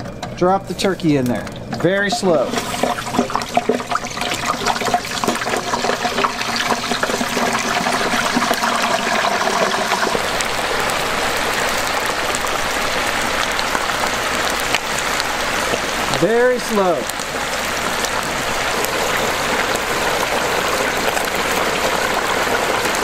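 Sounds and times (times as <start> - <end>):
hot oil bubbling and sizzling: 0.0 - 23.0.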